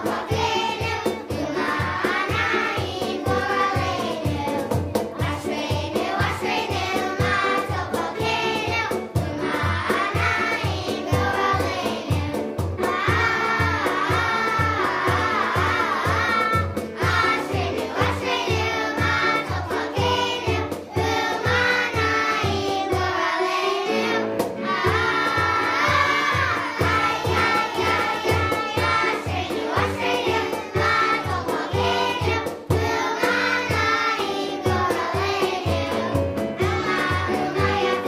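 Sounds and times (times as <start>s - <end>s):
backing track with steady beat: 0.0s - 38.0s
children's choir singing: 0.0s - 38.0s.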